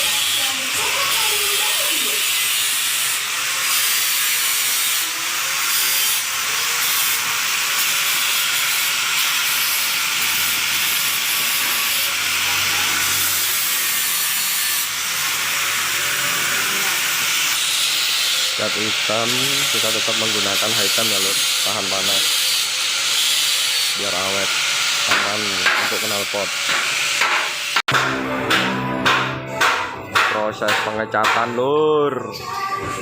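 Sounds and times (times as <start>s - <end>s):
sanding metal rasping scrape: 0.0s - 28.0s.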